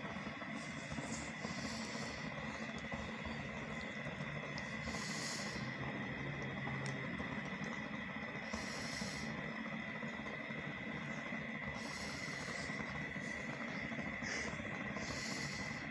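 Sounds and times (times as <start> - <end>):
slow soft breathing: 0.0 - 5.9, 8.2 - 15.9
steady high-pitched hum: 0.0 - 15.9.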